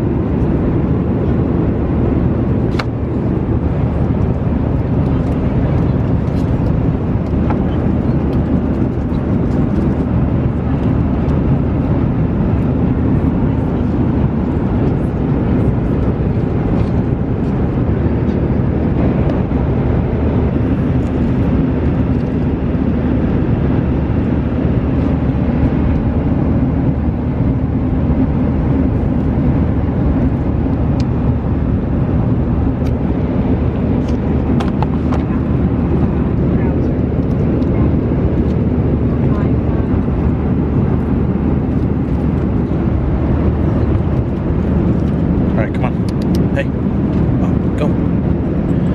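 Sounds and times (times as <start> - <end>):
airliner cabin engine rumble: 0.0 - 48.9.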